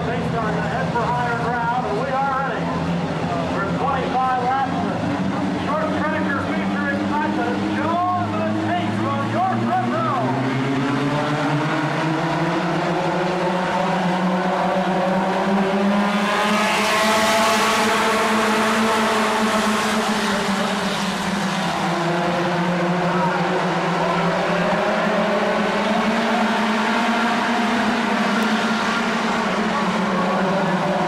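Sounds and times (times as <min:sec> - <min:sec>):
racing car engines: 0:00.0 - 0:31.0.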